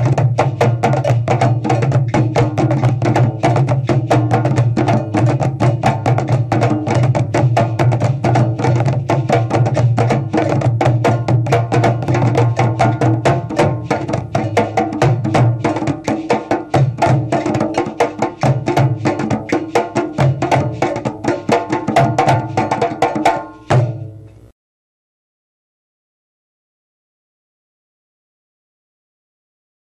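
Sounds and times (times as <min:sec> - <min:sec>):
hand drums fast rhythm: 0:00.0 - 0:24.1.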